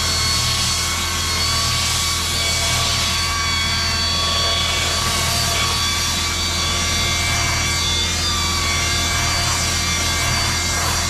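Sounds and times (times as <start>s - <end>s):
drill brush motor whine: 0.0s - 11.0s.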